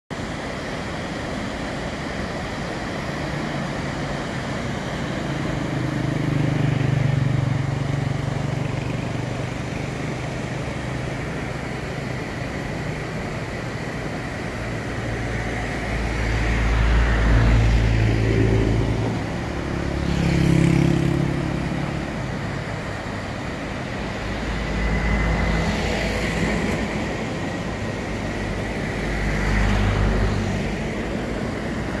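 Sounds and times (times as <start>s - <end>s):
rushing whitewater river: 0.1s - 32.0s
vehicles driving past: 0.3s - 32.0s.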